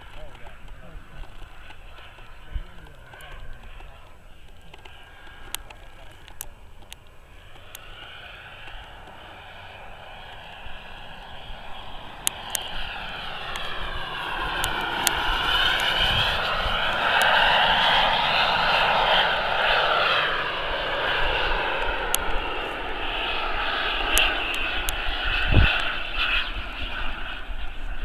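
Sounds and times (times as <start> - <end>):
model jet engine whine: 0.0 - 28.0.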